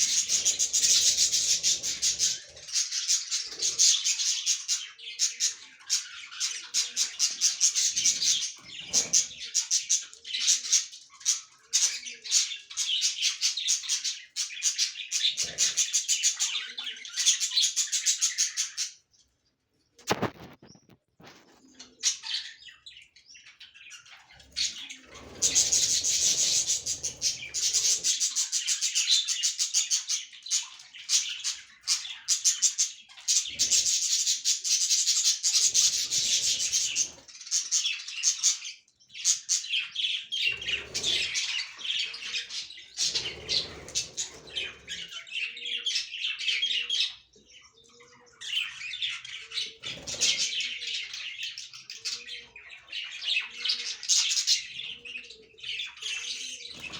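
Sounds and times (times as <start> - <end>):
budgerigars chattering: 0.0 - 19.0, 21.6 - 56.9.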